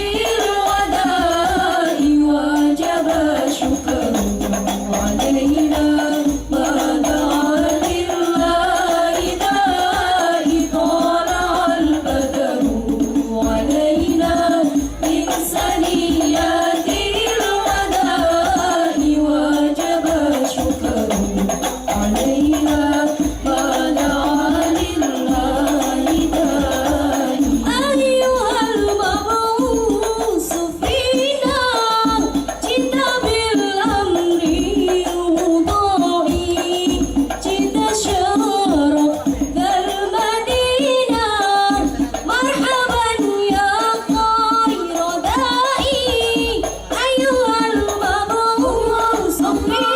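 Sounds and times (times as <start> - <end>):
frame drums beating: 0.0 - 49.9
person singing devotional melody: 0.0 - 49.9
voices singing together: 0.0 - 49.9.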